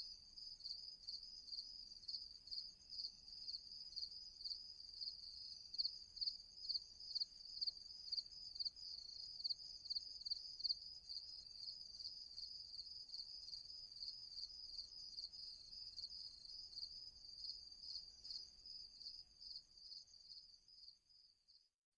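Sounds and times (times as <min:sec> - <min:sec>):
crickets chirping: 0:00.0 - 0:21.6.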